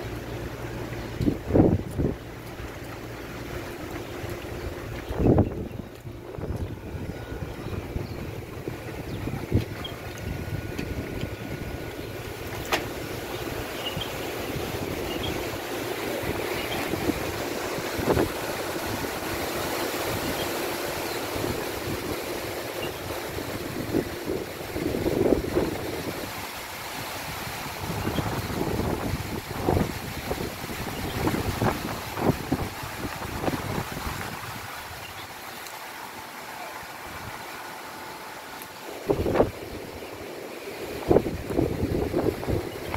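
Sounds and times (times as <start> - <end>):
strong wind rushing through trees: 0.0 - 42.9.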